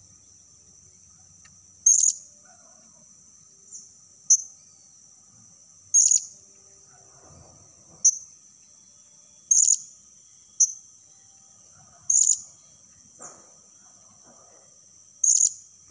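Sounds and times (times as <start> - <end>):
high insect drone: 0.0 - 15.9.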